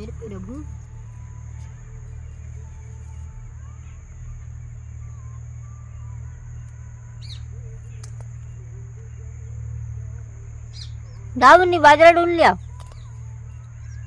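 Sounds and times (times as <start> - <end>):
bird chirp: 0.0 - 14.0
high-pitched whine: 0.0 - 14.0
low hum: 0.0 - 14.0.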